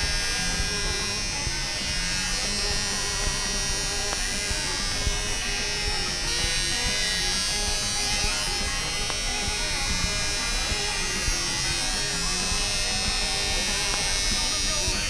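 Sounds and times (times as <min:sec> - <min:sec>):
buzzing drone: 0:00.0 - 0:15.0.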